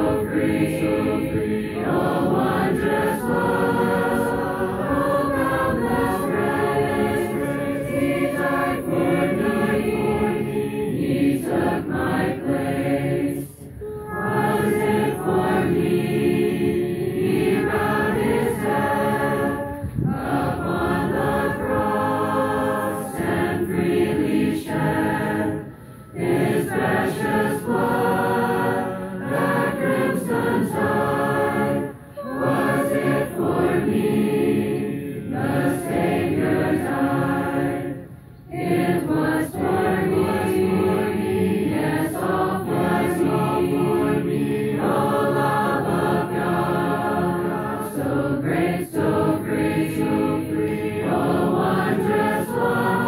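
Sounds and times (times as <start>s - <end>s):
group singing a hymn: 0.0s - 53.0s.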